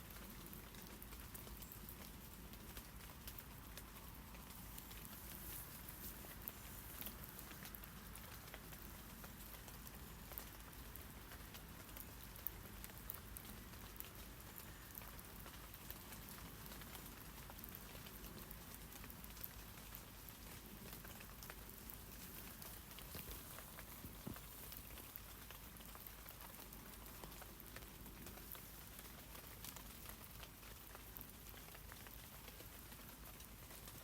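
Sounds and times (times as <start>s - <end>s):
rain falling on leaves: 0.0s - 34.0s.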